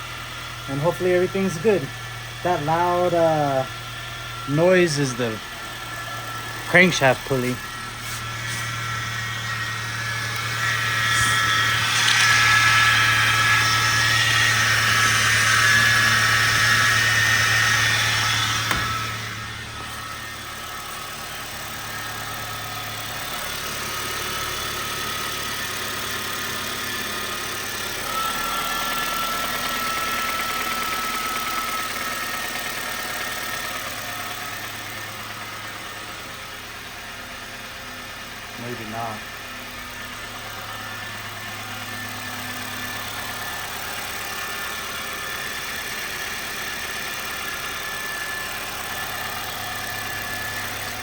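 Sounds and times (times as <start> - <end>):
car engine idling: 0.0 - 51.0
high whine from engine: 0.0 - 51.0.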